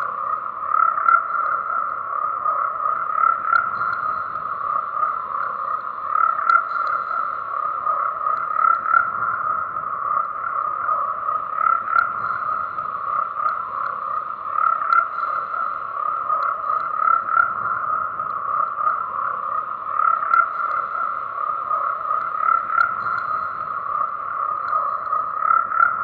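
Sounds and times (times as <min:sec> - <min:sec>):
frogs croaking chorus: 0:00.0 - 0:26.0.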